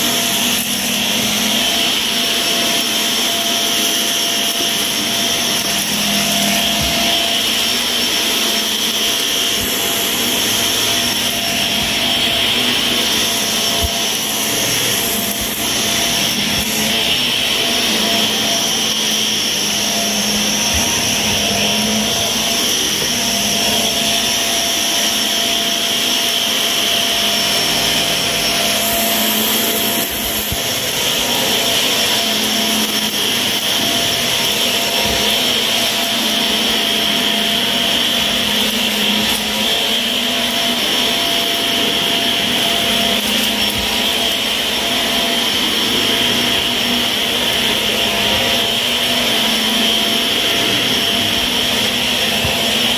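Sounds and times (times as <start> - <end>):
vacuum cleaner on carpet: 0.0 - 52.9.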